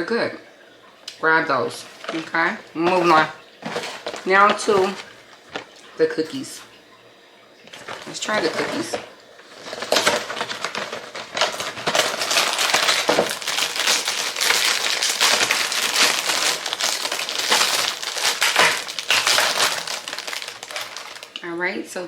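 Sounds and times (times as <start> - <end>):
plastic packaging crinkling: 1.7 - 6.3, 7.6 - 21.4.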